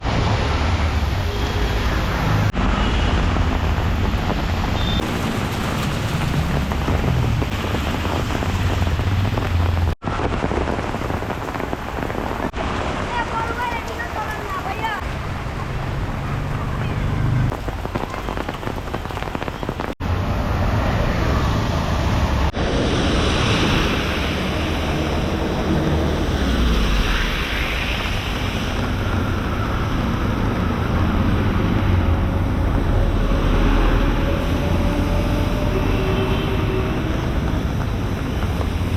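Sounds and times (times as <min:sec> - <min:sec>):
city traffic noise: 0:00.0 - 0:38.9
rain: 0:00.0 - 0:38.9.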